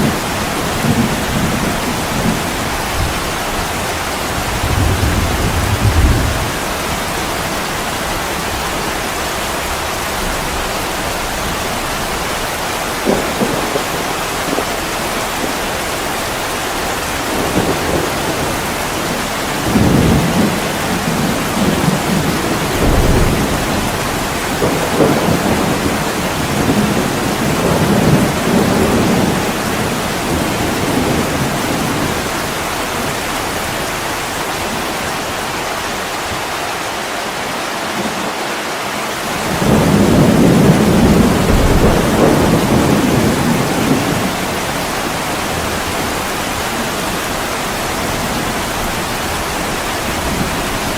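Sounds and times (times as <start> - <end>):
thunder rumbling: 0.0 - 36.5, 39.2 - 50.9
heavy rain on a window: 0.0 - 50.9.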